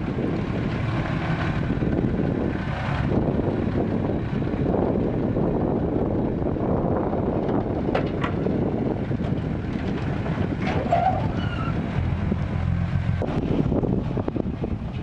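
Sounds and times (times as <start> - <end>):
truck driving over loose dirt: 0.0 - 15.0
truck engine running: 0.0 - 15.0
wind on microphone: 0.0 - 15.0.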